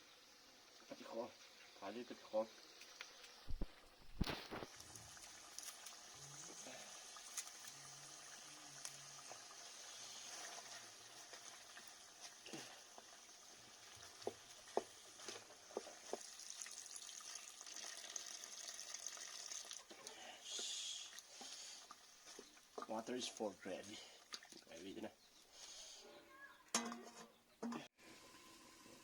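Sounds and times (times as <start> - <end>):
curry sizzling and bubbling in pot: 0.0 - 20.0, 21.0 - 24.6.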